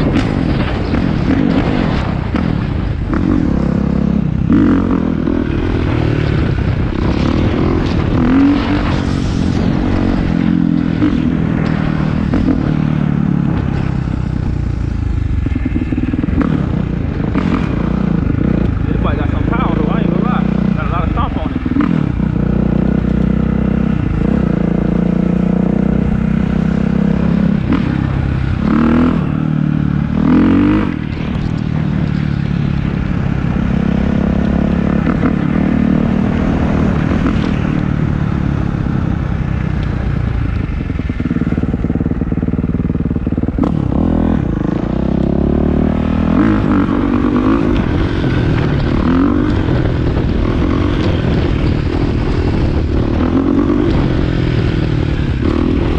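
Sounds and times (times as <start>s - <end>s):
dirt bike engine revving: 0.0s - 14.1s, 14.8s - 39.2s, 40.0s - 55.9s.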